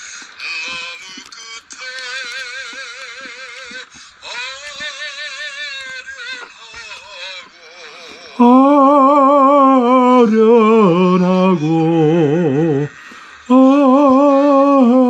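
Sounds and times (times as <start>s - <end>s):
person singing with vibrato: 0.0s - 15.0s.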